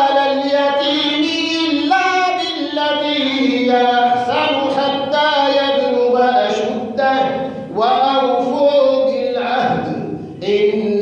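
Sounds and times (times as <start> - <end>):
person chanting melodic recitation: 0.0 - 11.0.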